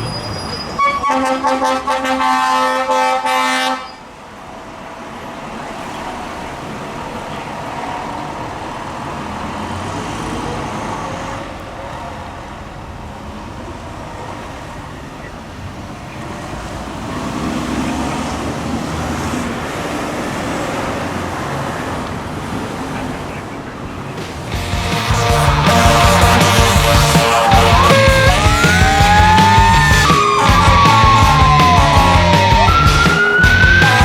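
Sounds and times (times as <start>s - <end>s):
vehicles passing: 0.0s - 34.0s.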